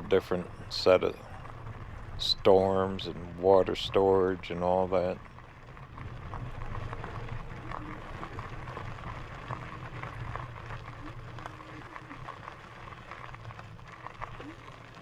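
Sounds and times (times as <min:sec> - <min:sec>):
bike tyres rolling over gravel: 0:00.0 - 0:15.0.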